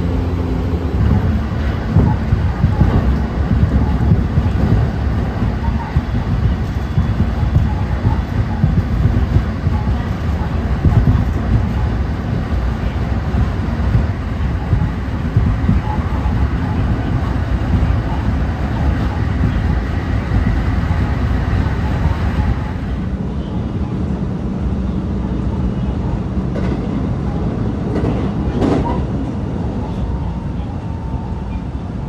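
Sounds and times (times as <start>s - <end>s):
train rumble from inside carriage: 0.0s - 32.0s.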